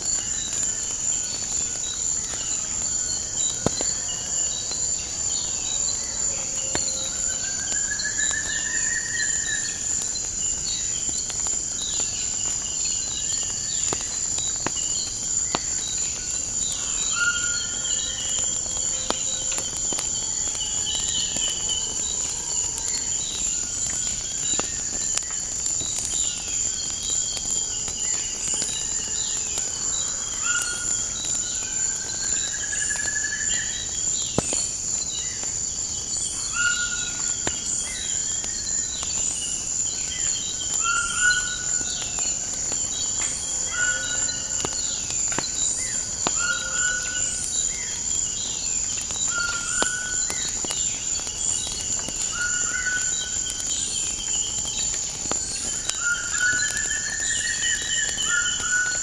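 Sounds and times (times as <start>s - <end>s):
crickets trilling: 0.0s - 59.0s
wood fire crackling pops: 0.0s - 59.0s.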